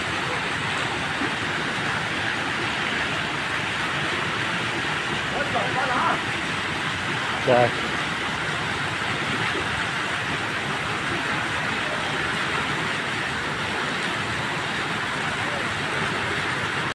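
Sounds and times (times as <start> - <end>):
flood water rushing: 0.0 - 16.9.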